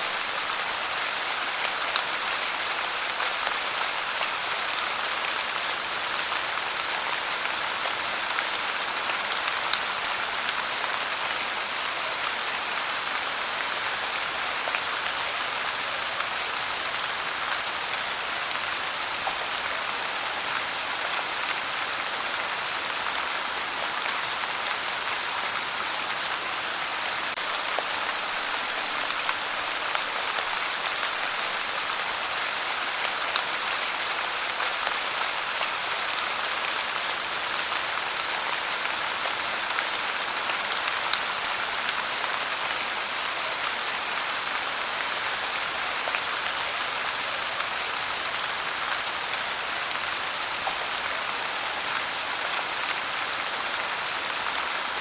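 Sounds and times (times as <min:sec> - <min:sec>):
pouring rain: 0:00.0 - 0:55.0.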